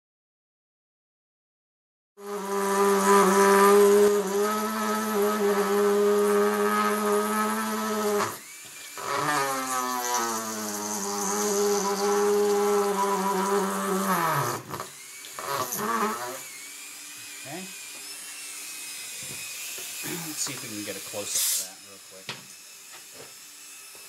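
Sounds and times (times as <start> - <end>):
rotary tool drill whining: 2.2 - 24.0.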